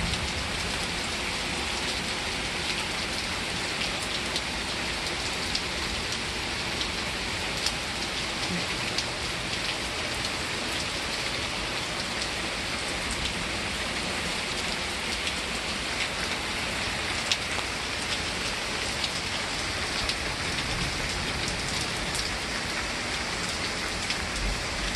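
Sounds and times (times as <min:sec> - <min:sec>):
raindrops ticking close by: 0:00.0 - 0:24.9
steady rain hissing: 0:00.0 - 0:24.9.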